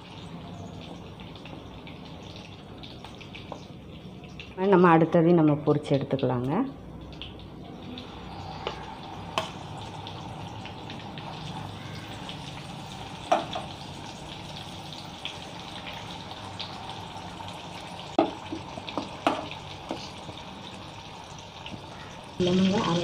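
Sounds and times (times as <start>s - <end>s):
fish sizzling in hot oil: 0.0s - 4.8s, 6.8s - 23.0s.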